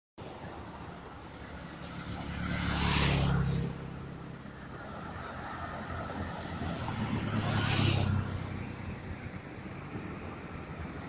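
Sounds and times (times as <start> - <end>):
background traffic: 0.2 - 11.0
vehicle passing close by: 1.4 - 11.0.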